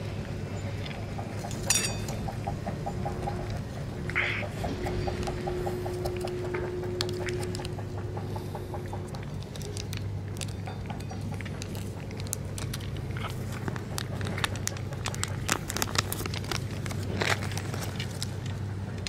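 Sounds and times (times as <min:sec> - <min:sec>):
cats chewing and smacking: 0:00.0 - 0:19.0
steady low hum: 0:00.0 - 0:19.0.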